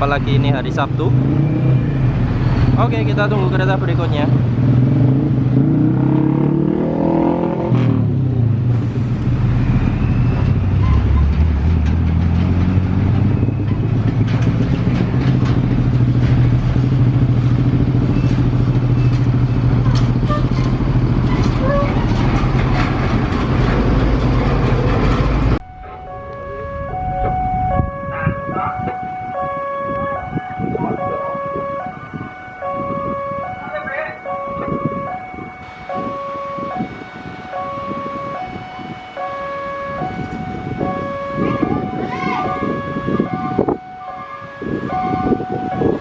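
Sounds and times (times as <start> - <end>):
engine revving: 0.0 - 42.0
motorcycles and cars in traffic: 0.0 - 46.0.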